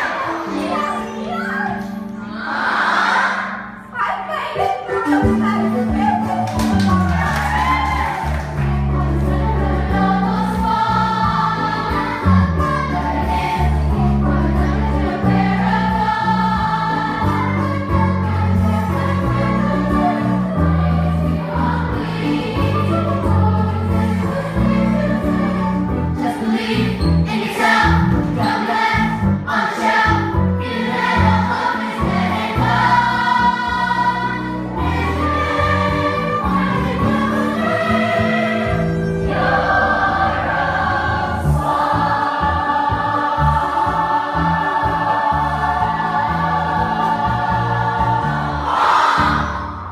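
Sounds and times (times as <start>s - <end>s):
youth chorus singing: 0.0s - 3.9s, 6.6s - 49.9s
instrumental accompaniment: 4.6s - 49.9s.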